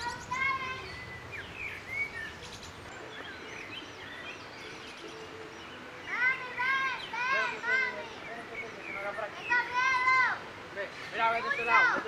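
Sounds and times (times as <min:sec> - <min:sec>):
bird chirps and calls: 0:00.0 - 0:12.0
steady background hiss: 0:00.0 - 0:12.0.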